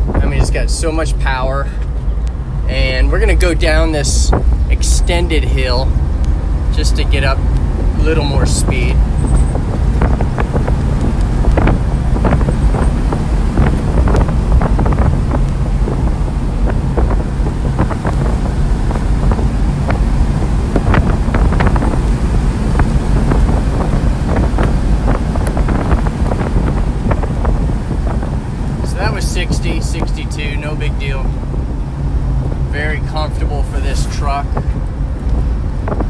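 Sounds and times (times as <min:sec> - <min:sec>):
engine and road rumble: 0:00.0 - 0:36.0
wind noise: 0:00.0 - 0:36.0.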